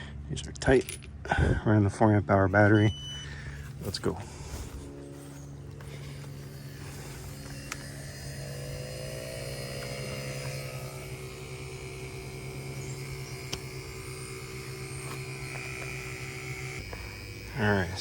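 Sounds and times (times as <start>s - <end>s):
vacuum pump humming: 2.5s - 18.0s.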